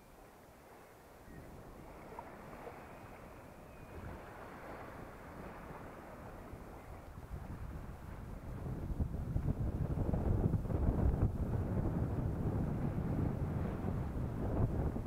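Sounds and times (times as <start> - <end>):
small waves washing on sand: 0.0 - 15.0
wind rumble on microphone: 0.0 - 15.0.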